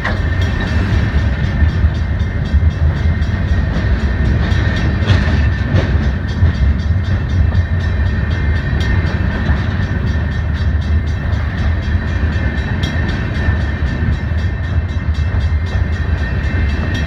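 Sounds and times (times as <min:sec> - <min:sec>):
rail cars rumbling on rails: 0:00.0 - 0:17.0.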